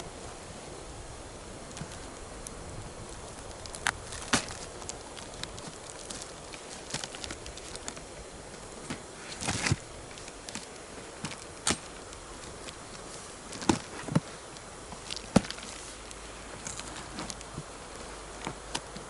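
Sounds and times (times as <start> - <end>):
campfire crackling: 0.0 - 19.0
fire popping and snapping: 0.0 - 19.0.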